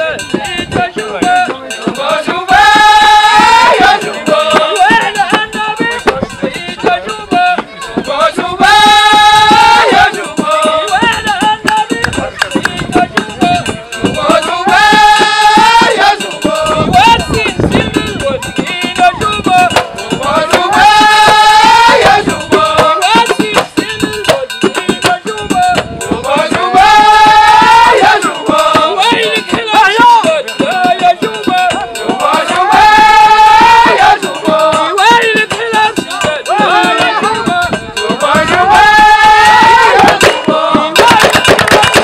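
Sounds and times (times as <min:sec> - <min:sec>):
hand percussion beats: 0:00.0 - 0:42.0
men singing: 0:00.0 - 0:42.0.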